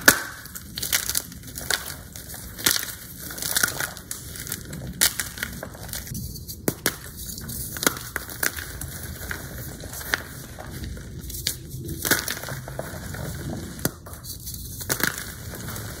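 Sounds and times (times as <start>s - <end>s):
chalk crunching and crumbling: 0.0s - 16.0s.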